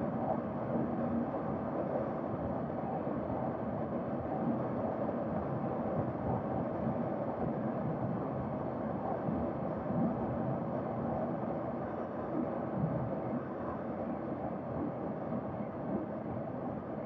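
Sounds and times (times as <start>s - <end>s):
wind rush over microphone: 0.0s - 17.0s.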